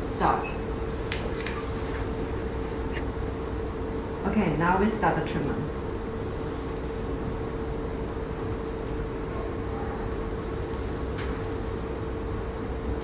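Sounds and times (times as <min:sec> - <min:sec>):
machine humming with steady tone: 0:00.0 - 0:13.0.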